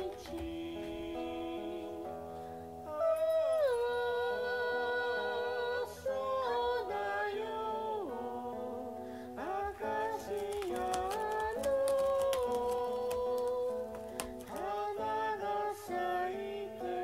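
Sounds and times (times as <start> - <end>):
person singing long notes: 0.0 - 17.0.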